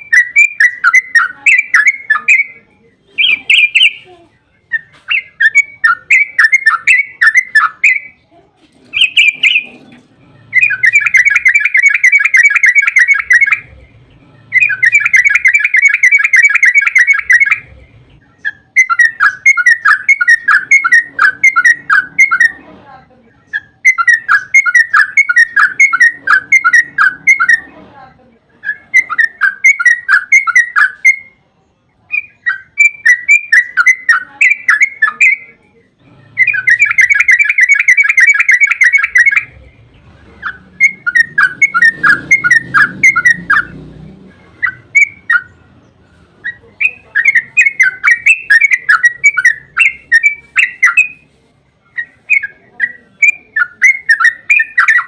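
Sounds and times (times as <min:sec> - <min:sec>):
bird singing chattering phrases: 0:00.0 - 0:27.8, 0:28.4 - 0:55.0
bird trill: 0:00.0 - 0:27.8, 0:28.5 - 0:31.4, 0:32.0 - 0:55.0.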